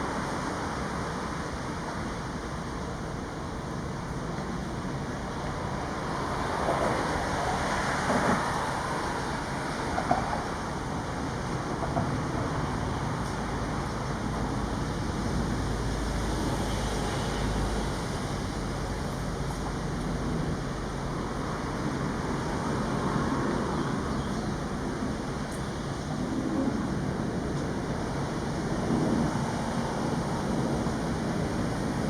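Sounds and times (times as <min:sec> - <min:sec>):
road traffic: 0:00.0 - 0:32.0.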